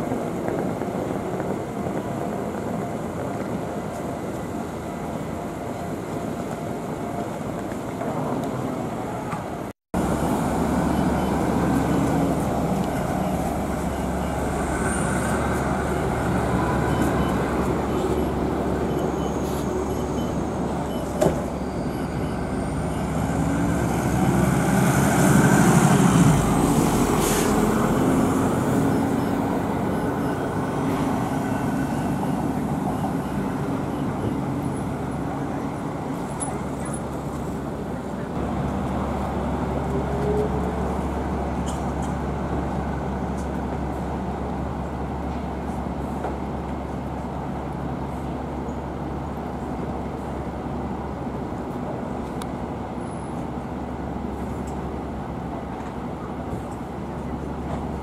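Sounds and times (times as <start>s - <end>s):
buses passing: 0.0s - 58.0s
city street traffic: 0.0s - 58.0s.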